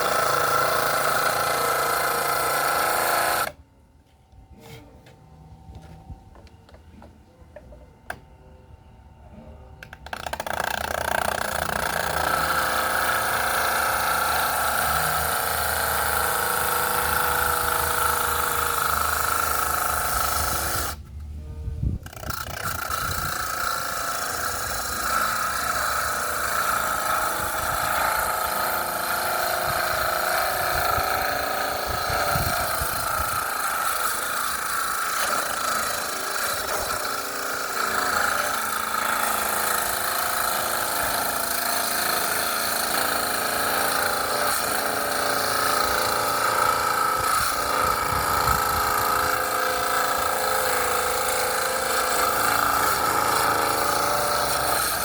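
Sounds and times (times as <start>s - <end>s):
power tool whining on wood: 0.0s - 3.6s, 9.8s - 55.0s.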